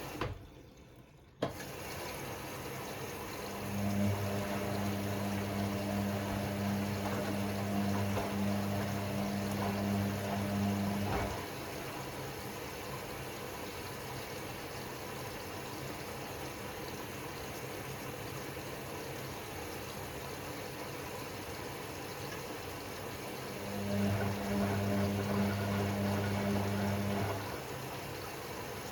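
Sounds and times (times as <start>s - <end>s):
washing machine hum: 0.0s - 28.9s
water running into drum: 0.0s - 28.9s.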